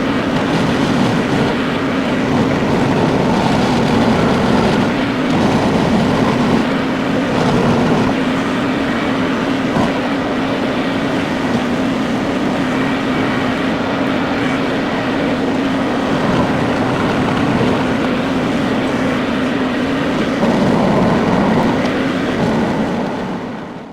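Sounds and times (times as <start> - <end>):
tractor engine droning: 0.0 - 23.9.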